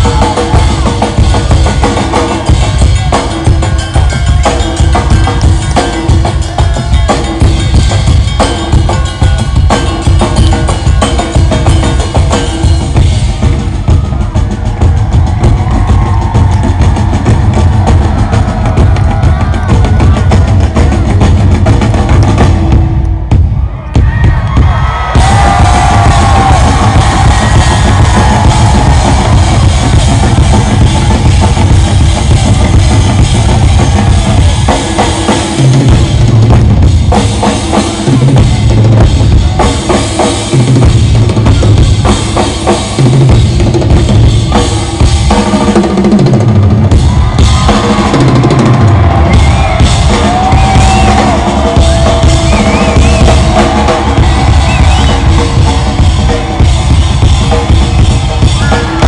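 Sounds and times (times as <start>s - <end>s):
rock band drumming: 0.0s - 59.0s.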